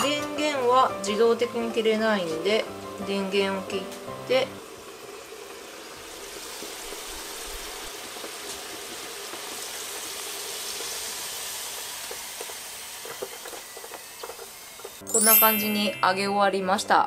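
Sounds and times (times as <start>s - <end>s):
fries sizzling in hot oil: 0.0s - 17.0s.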